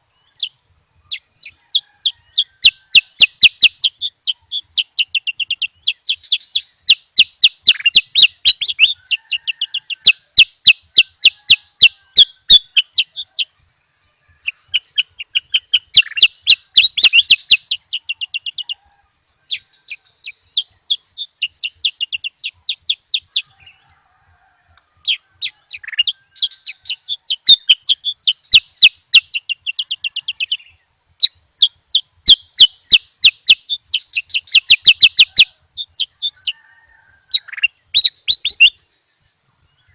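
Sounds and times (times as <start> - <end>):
bird chattering song: 0.0 - 13.6, 14.2 - 23.8, 25.0 - 36.6, 37.3 - 39.9
faint high hiss: 0.0 - 39.9.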